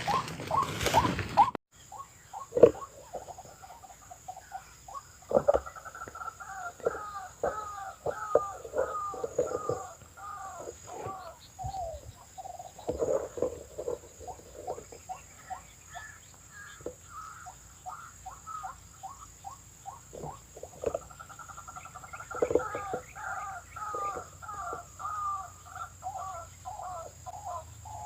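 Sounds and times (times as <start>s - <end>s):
waterhen croaking calls: 0.0s - 28.0s.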